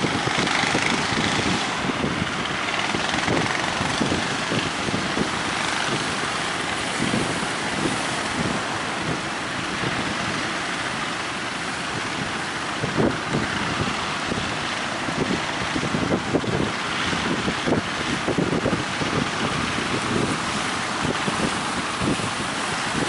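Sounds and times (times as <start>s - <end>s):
boat engine running: 0.0s - 23.0s
sea rushing: 0.0s - 23.0s
wind buffeting microphone: 0.0s - 23.0s.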